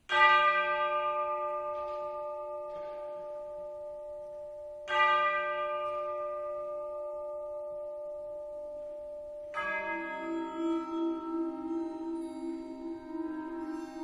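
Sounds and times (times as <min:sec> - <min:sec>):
deep bell ringing: 0:00.0 - 0:14.0.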